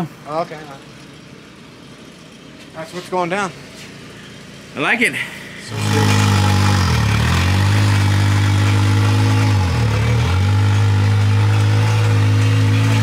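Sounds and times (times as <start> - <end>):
vehicle engine running at low revs: 0.2 - 13.0.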